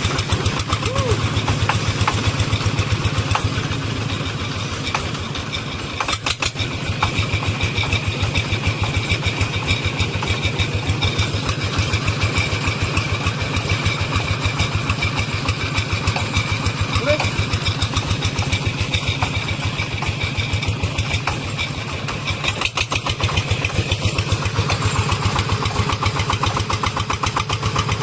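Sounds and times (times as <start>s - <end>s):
sharp engine knocks: 0.0s - 28.0s
tractor diesel engine chugging: 0.0s - 28.0s.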